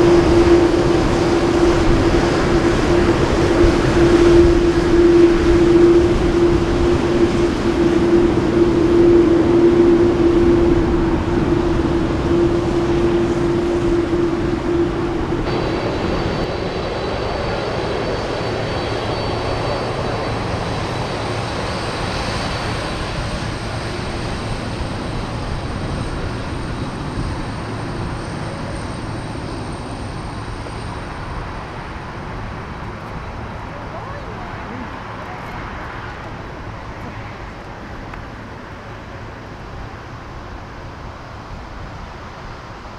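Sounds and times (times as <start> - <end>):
jet engines droning at taxi power: 0.0 - 42.9
jet rush with high whine: 0.0 - 42.9.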